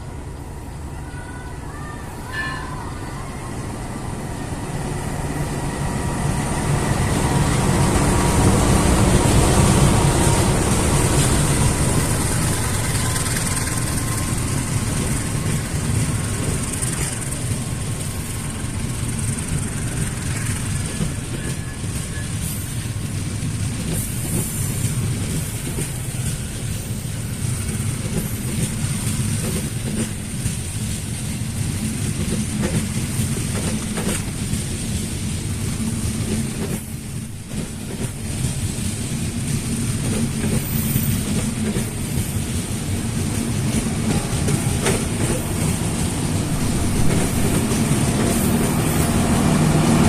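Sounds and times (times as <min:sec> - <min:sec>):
passenger train rumbling on rails: 0:00.0 - 0:50.0.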